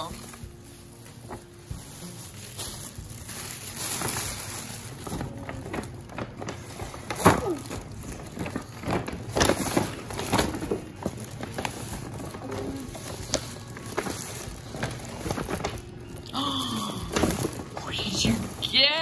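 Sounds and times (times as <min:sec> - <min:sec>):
gift wrappers rustling and crinkling: 0:00.0 - 0:19.0.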